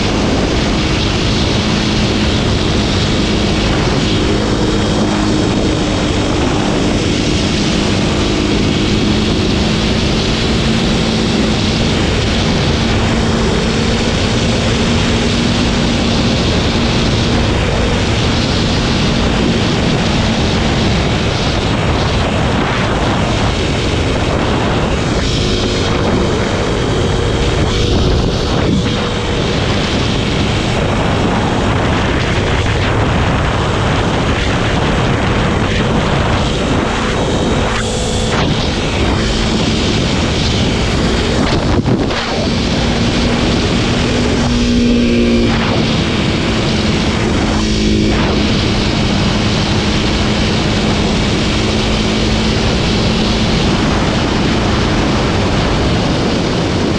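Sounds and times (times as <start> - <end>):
motorcycle engine running: 0.0 - 56.9
wind noise on microphone: 0.0 - 56.9.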